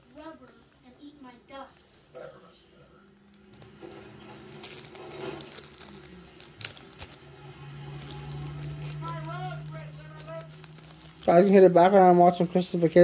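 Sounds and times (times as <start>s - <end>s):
plastic packet crinkling: 0.0s - 2.3s, 3.0s - 13.0s.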